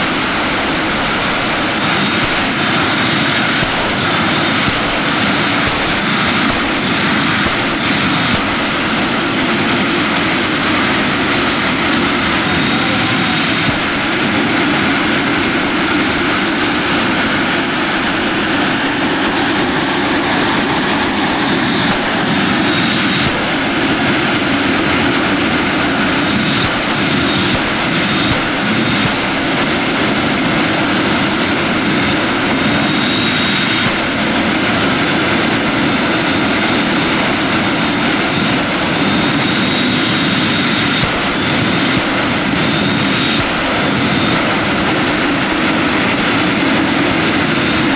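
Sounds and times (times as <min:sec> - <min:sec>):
high-pitched engine whine: 0:00.0 - 0:47.9
jet engine roaring: 0:00.0 - 0:47.9.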